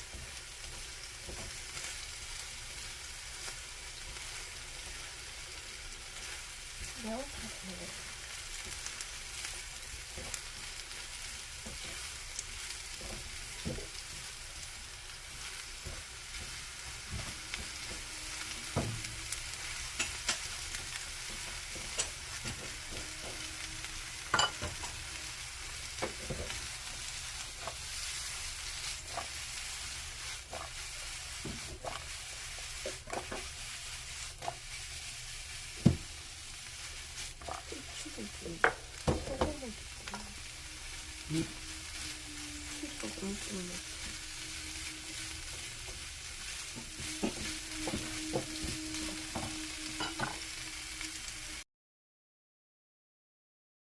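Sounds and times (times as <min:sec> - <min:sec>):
stirring knocks and scrapes: 0:00.0 - 0:02.0, 0:08.6 - 0:50.8
food sizzling in oil: 0:00.0 - 0:51.6.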